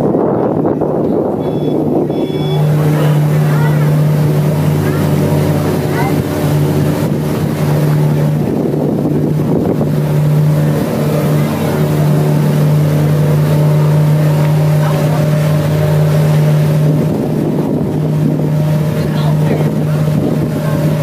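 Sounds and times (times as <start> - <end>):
boat engine droning: 0.0 - 21.0
water and wind noise: 0.0 - 21.0.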